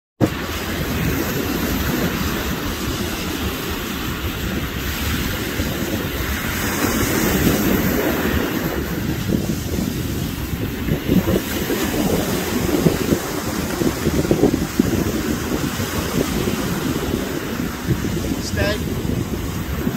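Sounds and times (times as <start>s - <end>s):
surf on a beach: 0.2s - 19.9s
wind buffeting microphone: 0.2s - 19.9s.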